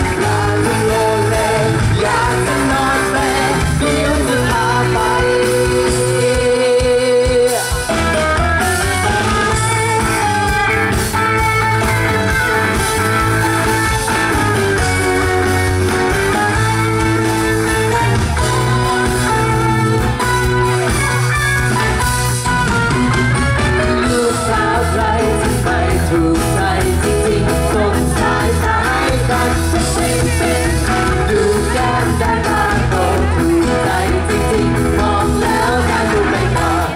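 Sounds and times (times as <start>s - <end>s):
pop song with guitar melody: 0.0s - 36.9s.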